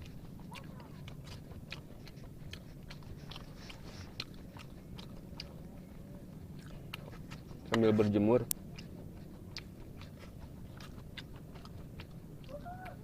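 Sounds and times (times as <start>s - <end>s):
chewing food with crunches: 0.0s - 13.0s.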